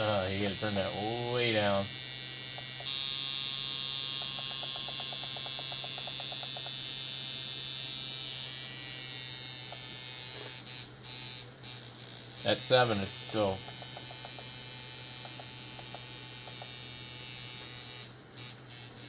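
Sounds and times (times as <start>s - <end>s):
tattoo machine buzzing: 0.0s - 19.0s.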